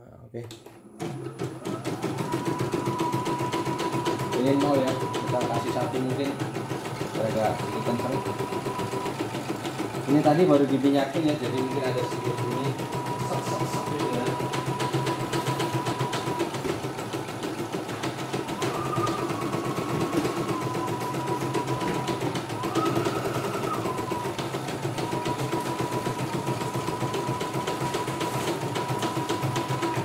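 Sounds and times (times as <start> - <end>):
embroidery machine needle strokes: 1.0 - 30.0
motor whine: 1.5 - 30.0.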